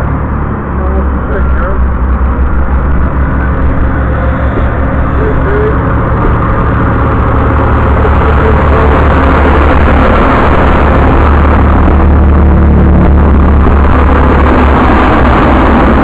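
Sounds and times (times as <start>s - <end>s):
diesel train engine rumbling: 0.0s - 16.0s.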